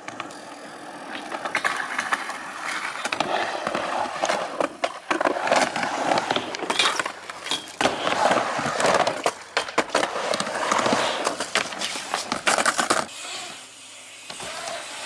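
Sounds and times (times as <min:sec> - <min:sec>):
skateboard clacks: 0:00.0 - 0:13.1
skateboard wheels rolling: 0:00.0 - 0:15.0.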